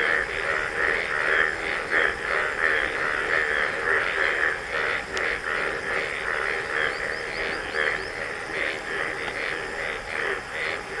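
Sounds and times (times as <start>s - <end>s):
chorus of pulsing animal calls: 0.0s - 11.0s.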